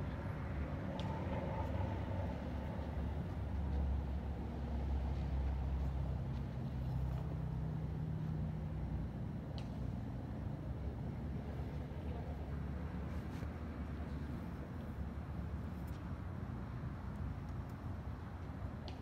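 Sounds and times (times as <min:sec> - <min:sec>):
distant road traffic rumble: 0:00.0 - 0:19.0.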